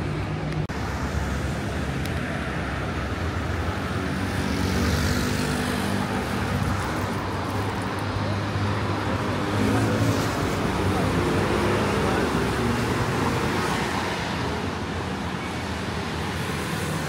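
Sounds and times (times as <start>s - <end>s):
street traffic engines and road noise: 0.0s - 17.0s.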